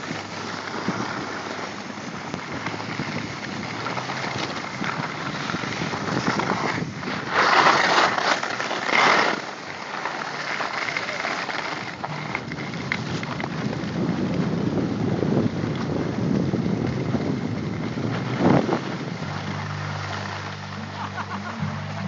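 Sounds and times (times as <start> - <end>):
wind buffeting microphone: 0.0 - 8.2, 11.9 - 22.0
skis scraping over packed snow: 0.0 - 22.0.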